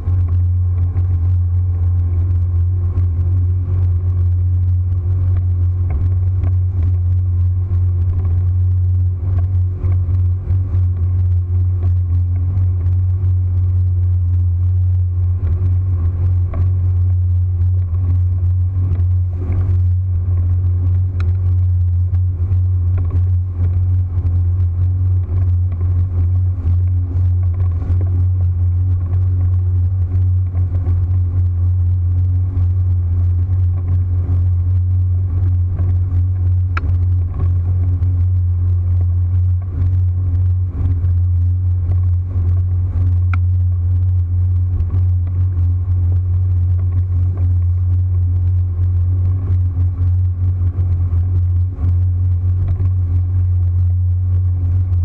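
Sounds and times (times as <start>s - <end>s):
motorboat engine droning: 0.0s - 55.0s.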